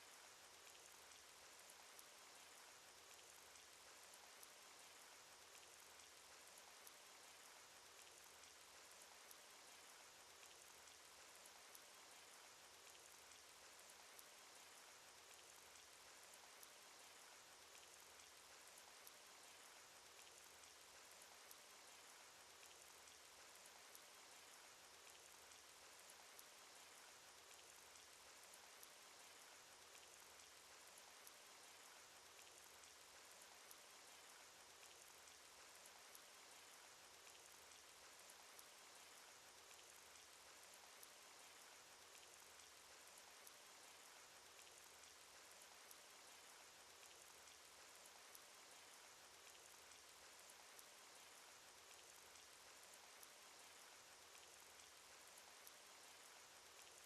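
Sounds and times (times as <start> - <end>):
small ticks: 0.0 - 57.0.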